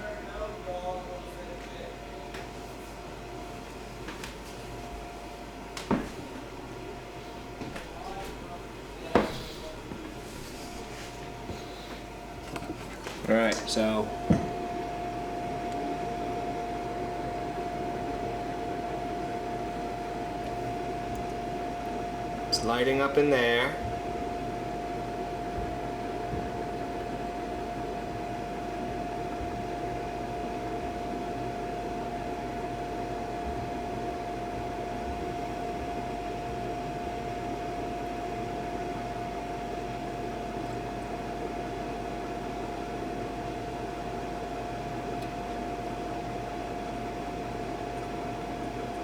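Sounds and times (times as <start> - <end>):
heater fan rushing: 0.0 - 49.0
mid-pitched whine: 0.0 - 49.0.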